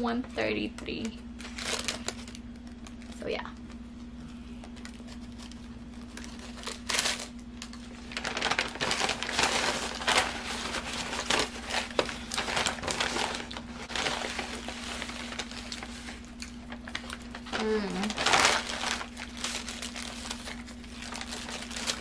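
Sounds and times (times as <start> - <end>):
paper bag crinkling: 1.4 - 3.4, 4.7 - 22.0.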